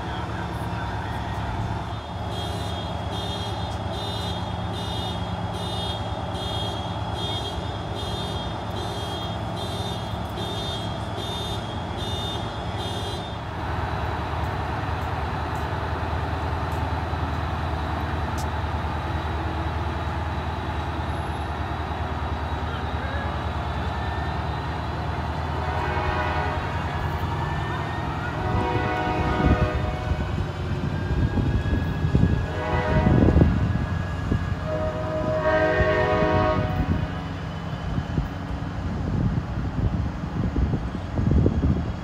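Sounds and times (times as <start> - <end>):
locomotive diesel engine running: 0.0 - 42.0.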